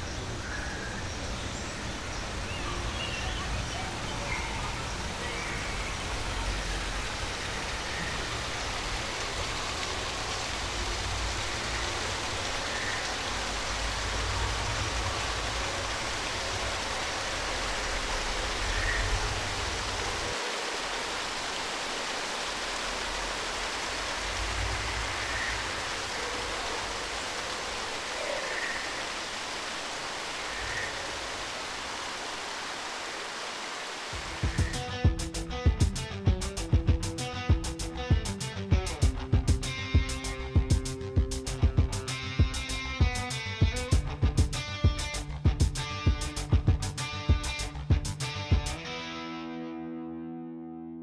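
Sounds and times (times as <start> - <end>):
falling water rushing: 0.0 - 47.7.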